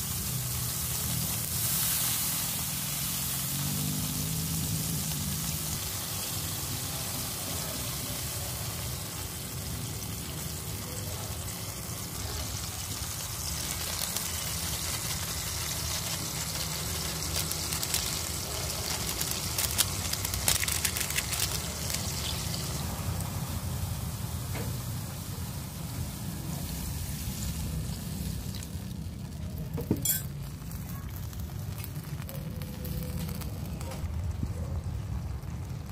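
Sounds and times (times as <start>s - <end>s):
fish sizzling in hot oil: 0.0s - 35.9s
oil crackling and spattering: 0.0s - 35.9s.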